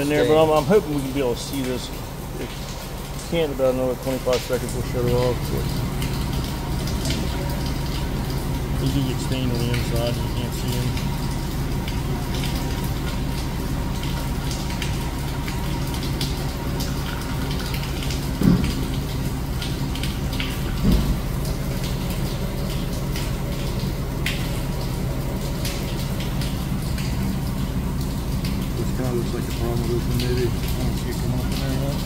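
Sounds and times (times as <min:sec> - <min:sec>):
hose water running into tank: 0:00.0 - 0:32.0
steady low hum: 0:00.0 - 0:32.0.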